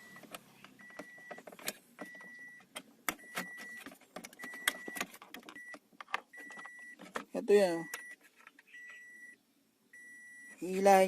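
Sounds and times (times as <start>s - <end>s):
car warning chime beeping: 0.0s - 1.4s, 2.0s - 10.8s
plastic console parts clicking: 0.1s - 9.2s.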